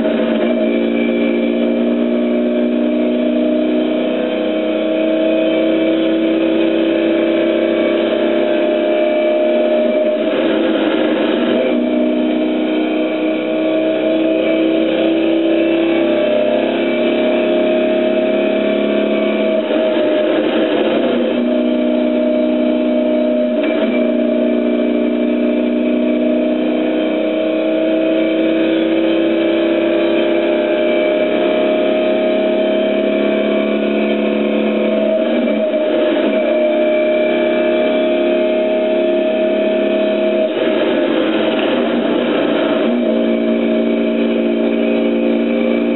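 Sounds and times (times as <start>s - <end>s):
car engine pulling hard: 0.0s - 45.9s.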